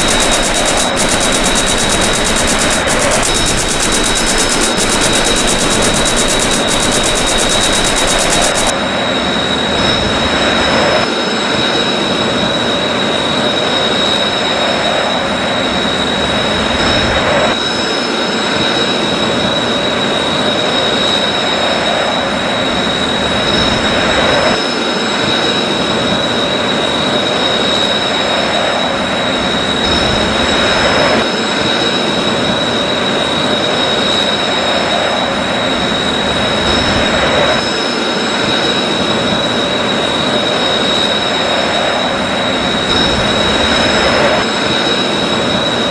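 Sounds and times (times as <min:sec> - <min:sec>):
high-pitched whine: 0:00.0 - 0:45.9
jet engine roar: 0:00.0 - 0:45.9.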